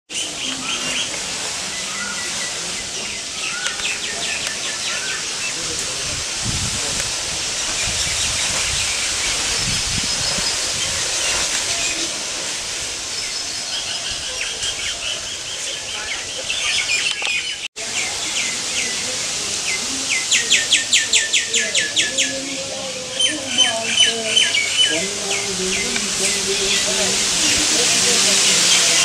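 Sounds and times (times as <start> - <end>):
birds chirping: 0.1 - 29.0
steady high hiss: 0.1 - 29.0.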